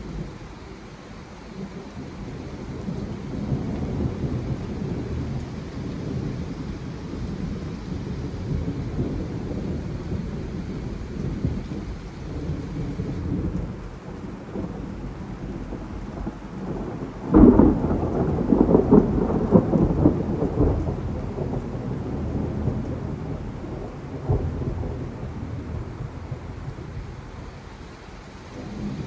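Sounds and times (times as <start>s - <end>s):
heavy rain on trees and lawn: 0.0s - 29.0s
crackling thunderclap: 1.5s - 29.0s.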